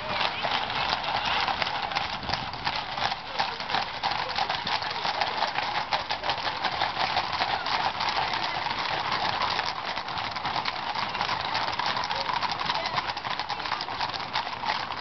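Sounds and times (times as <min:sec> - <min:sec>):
horse hooves clip-clopping on road: 0:00.0 - 0:15.0.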